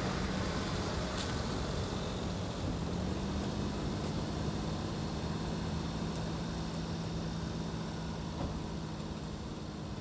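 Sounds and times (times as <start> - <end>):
rain on camper roof: 0.1 - 10.0.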